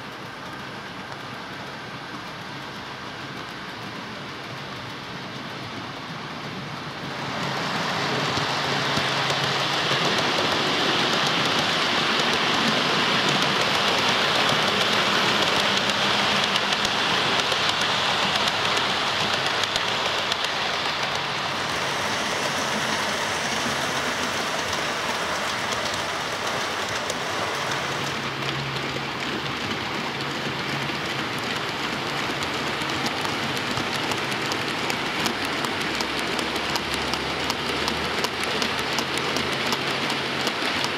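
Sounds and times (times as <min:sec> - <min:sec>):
model trains running on track: 0:00.0 - 0:40.9.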